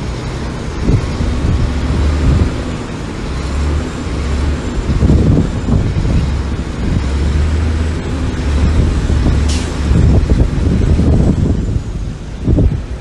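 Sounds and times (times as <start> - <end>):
heavy diesel machinery drone: 0.0 - 13.0.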